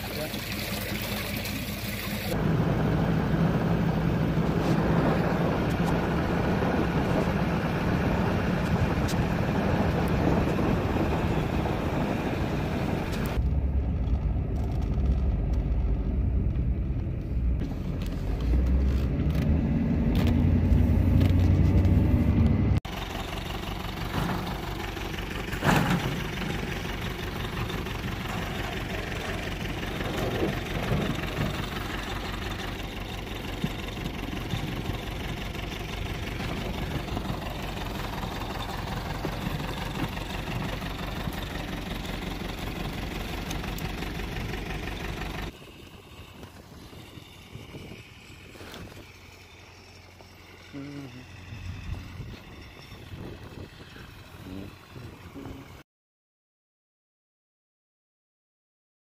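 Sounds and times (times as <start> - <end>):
tractor engine running under load: 0.0 - 55.8.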